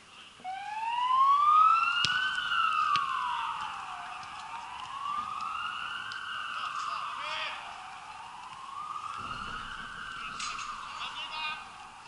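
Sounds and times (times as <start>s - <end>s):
emergency siren wailing: 0.4s - 12.0s.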